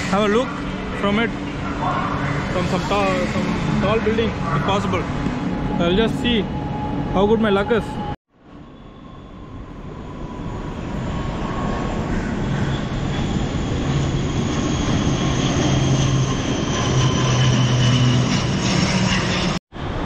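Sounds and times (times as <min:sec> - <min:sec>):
jet airliner flying low: 0:00.0 - 0:20.0.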